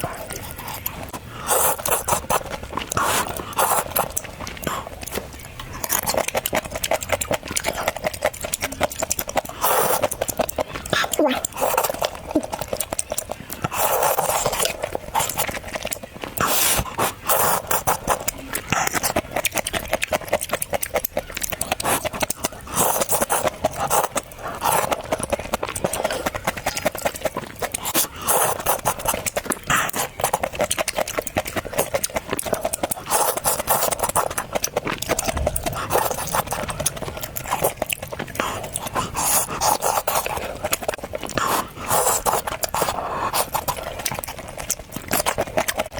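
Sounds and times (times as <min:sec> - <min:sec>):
wet chewing and mouth smacking: 0:00.0 - 0:45.9.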